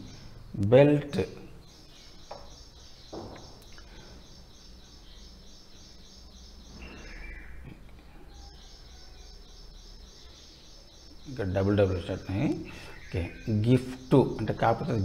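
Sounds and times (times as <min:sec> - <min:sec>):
rhythmic high-pitched chirping: 0:00.0 - 0:07.6, 0:08.2 - 0:15.0.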